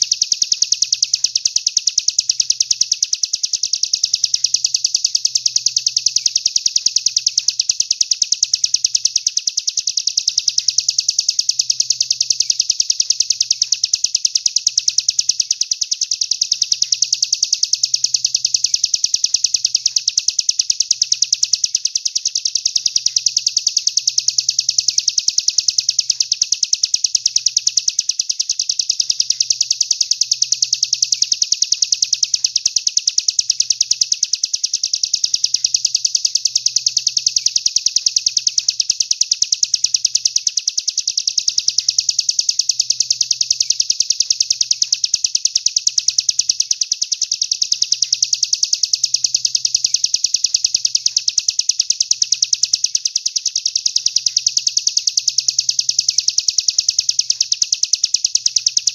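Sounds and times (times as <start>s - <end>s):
fast high bird chirps: 0.0s - 58.9s.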